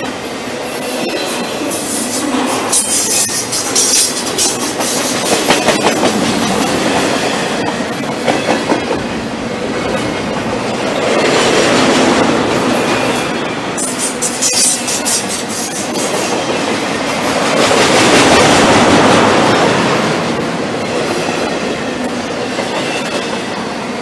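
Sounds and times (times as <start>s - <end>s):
freight train wheels rushing on rail: 0.0s - 24.0s.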